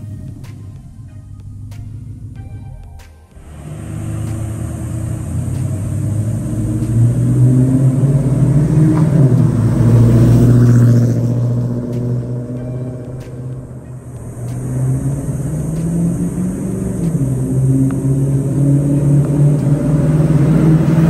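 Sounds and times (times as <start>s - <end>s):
truck exhaust rumble passing: 0.0s - 21.0s.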